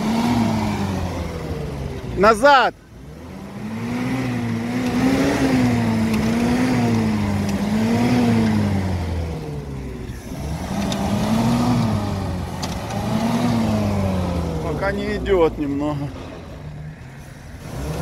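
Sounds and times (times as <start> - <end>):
engine revving in surges: 0.0 - 18.0.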